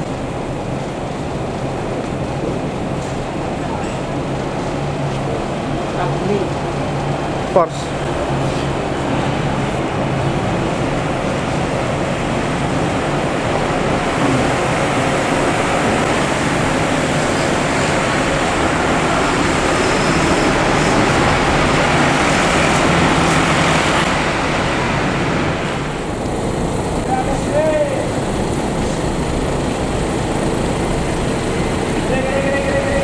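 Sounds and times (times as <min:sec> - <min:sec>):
tyre and road noise: 0:00.0 - 0:33.0.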